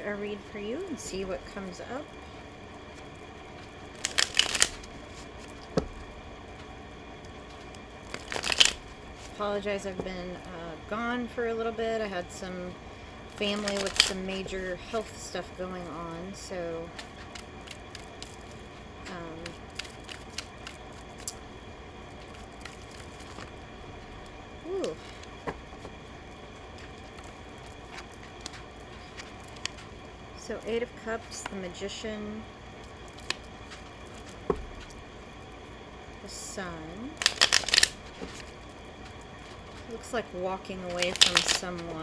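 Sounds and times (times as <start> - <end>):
cards being shuffled: 0.4 - 10.8, 12.4 - 35.8, 36.6 - 42.0.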